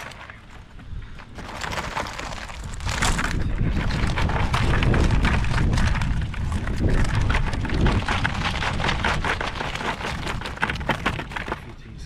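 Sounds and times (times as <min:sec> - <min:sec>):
crab shells rattling on wire mesh: 0:00.0 - 0:00.6, 0:01.3 - 0:11.8
wind rumble on microphone: 0:00.0 - 0:12.0.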